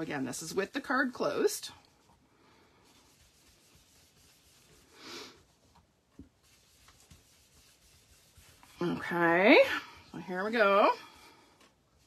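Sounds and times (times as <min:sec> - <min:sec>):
brush rubbing on card: 0:01.9 - 0:12.0.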